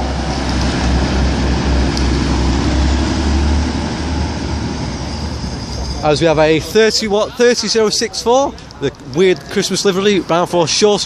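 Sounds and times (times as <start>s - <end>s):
train engine and wheel rumble: 0.0s - 11.0s.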